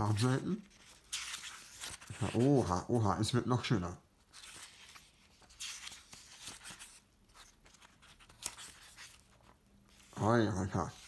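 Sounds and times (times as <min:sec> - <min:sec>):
book pages turning: 0:00.0 - 0:03.0, 0:04.2 - 0:11.0.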